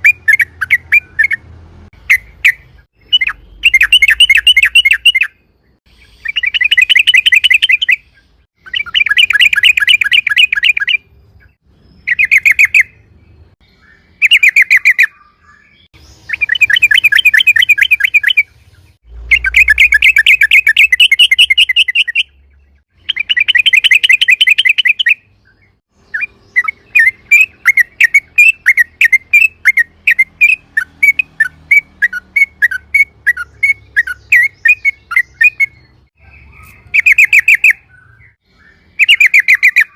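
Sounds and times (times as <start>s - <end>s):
bird chirps: 0.0s - 39.9s
bird singing rolling trills: 0.0s - 39.9s.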